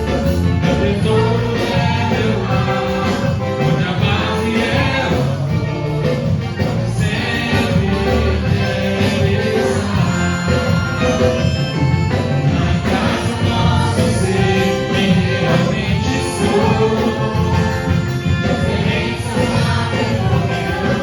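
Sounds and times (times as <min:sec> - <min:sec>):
full band playing: 0:00.0 - 0:21.0
voices singing worship song: 0:00.0 - 0:21.0.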